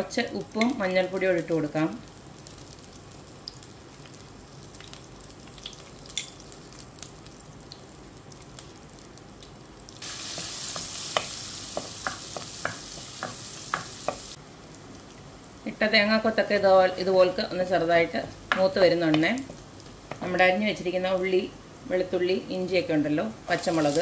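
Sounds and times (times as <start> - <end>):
frying crackle and pops: 0.0 - 21.9, 23.5 - 24.0
loud steady sizzle: 0.0 - 24.0.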